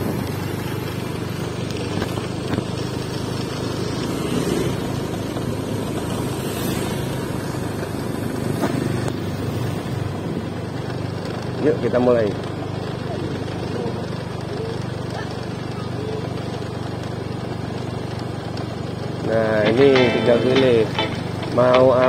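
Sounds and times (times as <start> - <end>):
road noise rushing: 0.0 - 14.4, 16.4 - 22.0
scooter engine running: 0.0 - 22.0.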